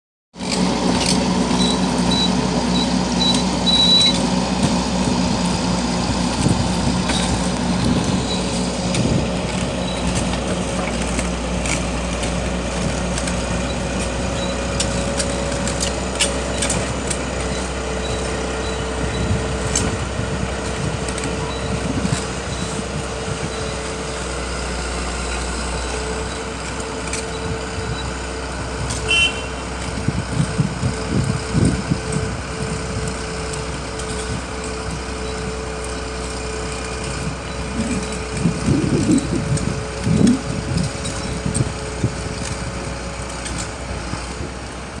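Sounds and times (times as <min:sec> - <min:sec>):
truck engine running: 0:00.4 - 0:45.0.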